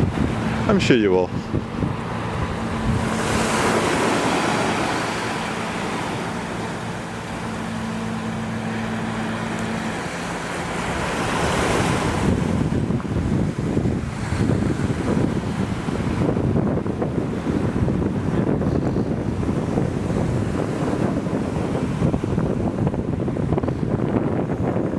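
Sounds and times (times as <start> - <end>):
surf breaking on beach: 0.0 - 23.6
wind buffeting microphone: 0.0 - 24.9.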